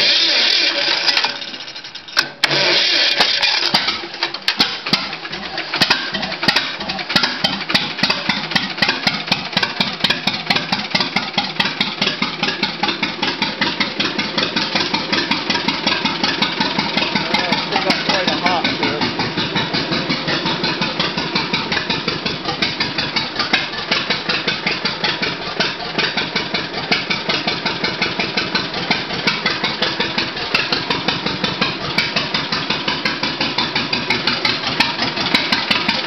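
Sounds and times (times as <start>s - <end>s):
engine backfire crack: 0.0s - 36.0s
tractor engine idling: 0.0s - 36.0s.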